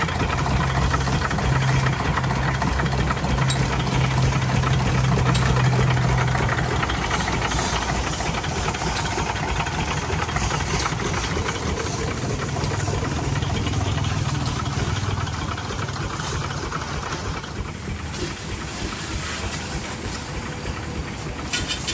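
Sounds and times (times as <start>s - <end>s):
diesel engine knocking: 0.0s - 21.9s.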